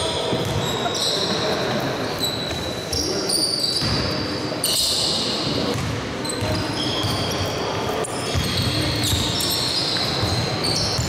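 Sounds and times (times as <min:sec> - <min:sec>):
sneakers squeaking on floor: 0:00.0 - 0:11.0.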